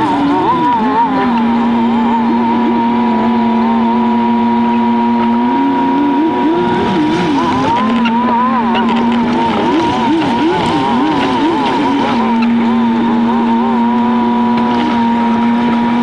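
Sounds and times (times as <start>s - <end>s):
high-pitched engine whine: 0.0s - 16.0s.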